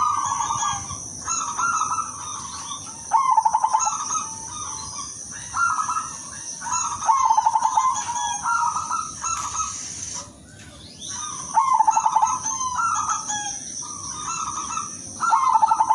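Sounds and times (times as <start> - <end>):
dove cooing: 0.0 - 15.9
high-pitched whine: 0.0 - 15.9.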